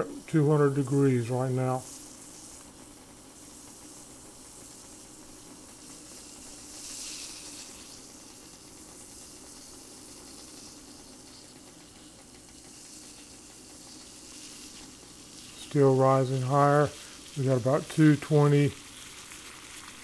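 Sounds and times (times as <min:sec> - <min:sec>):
water sizzling near boil: 0:00.0 - 0:20.0.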